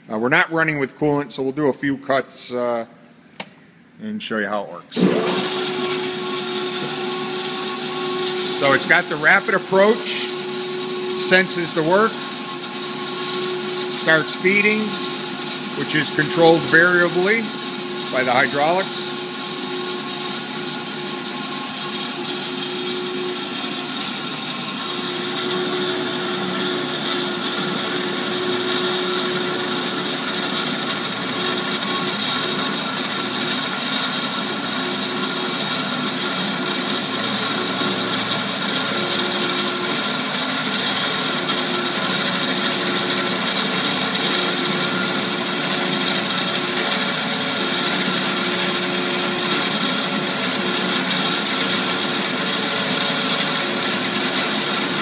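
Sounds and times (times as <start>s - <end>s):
band saw cutting metal: 5.0s - 55.0s.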